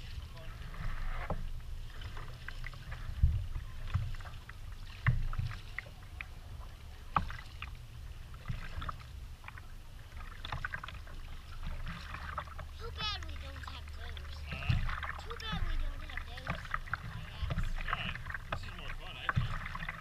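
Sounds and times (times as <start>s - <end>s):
paddle splashing and dripping: 0.0s - 20.0s
water rumbling against hull: 0.0s - 20.0s.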